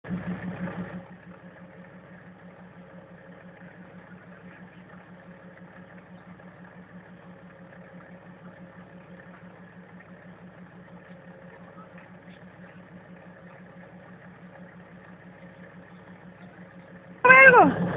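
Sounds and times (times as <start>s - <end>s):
pickup engine idling: 0.0s - 17.9s.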